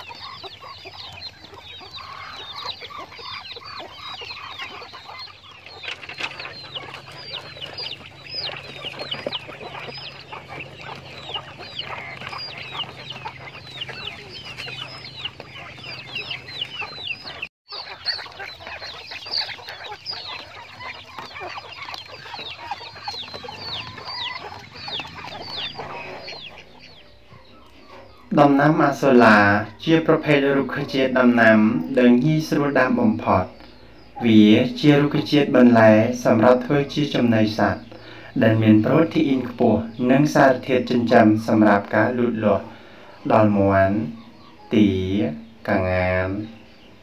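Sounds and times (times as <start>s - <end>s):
birds pecking ticks: 0.0s - 47.0s
quail chirping: 0.0s - 47.0s.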